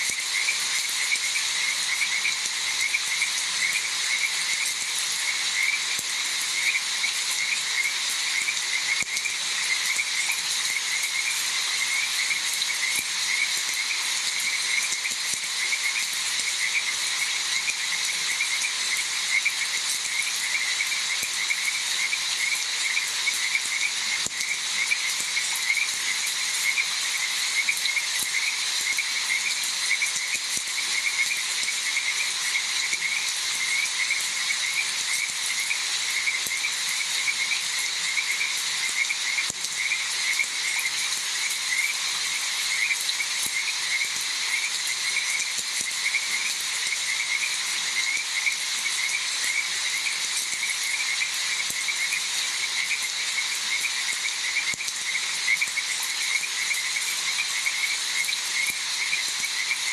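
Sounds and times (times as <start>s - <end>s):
frogs calling: 0.0s - 59.9s
steady high hiss: 0.0s - 59.9s.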